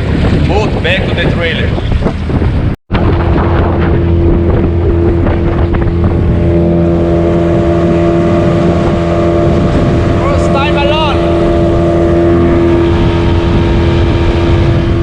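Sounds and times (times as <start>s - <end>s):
outboard motor running: 0.0s - 15.0s
water noise: 0.0s - 15.0s
wind: 0.0s - 15.0s.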